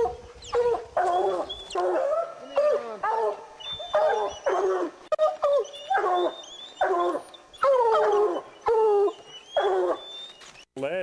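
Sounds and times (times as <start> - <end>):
hounds baying: 0.0 - 10.4.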